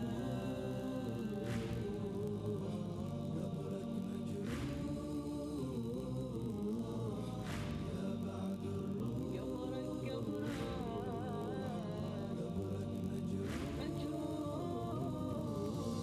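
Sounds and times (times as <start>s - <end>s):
a cappella devotional chant: 0.0s - 16.0s.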